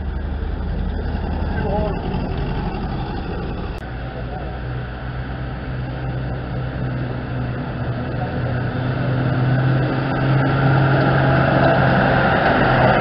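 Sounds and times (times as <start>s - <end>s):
half-track engine driving past: 0.0s - 13.0s.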